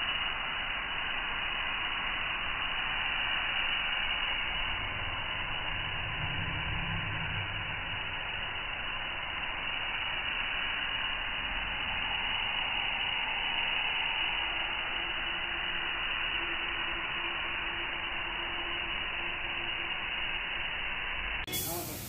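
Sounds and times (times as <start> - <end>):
paint spray gun hissing: 0.0 - 22.0.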